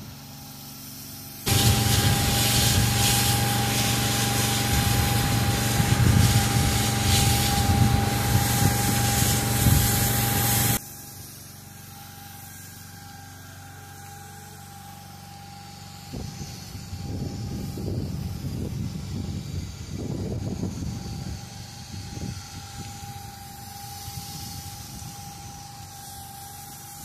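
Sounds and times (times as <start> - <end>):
pressure washer machine hum: 0.0 - 27.0
pressure washer spraying water: 0.0 - 27.0.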